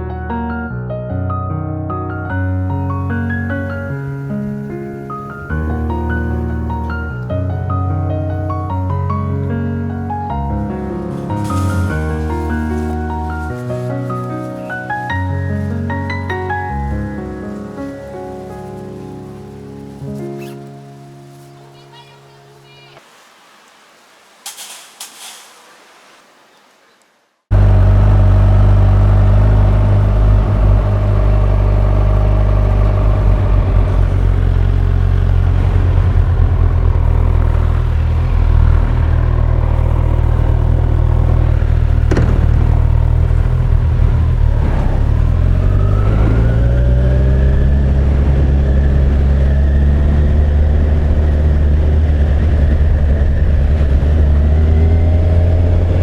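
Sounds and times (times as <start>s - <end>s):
motorcycle engine running: 2.4s - 20.6s, 27.5s - 56.0s.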